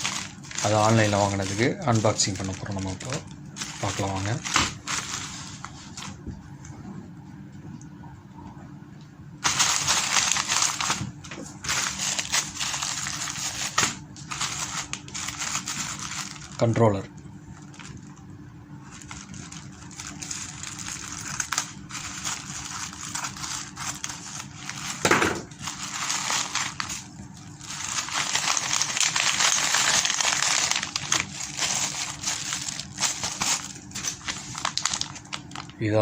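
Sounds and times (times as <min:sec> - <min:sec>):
plastic packaging crinkling: 0:00.0 - 0:06.4, 0:09.4 - 0:36.0.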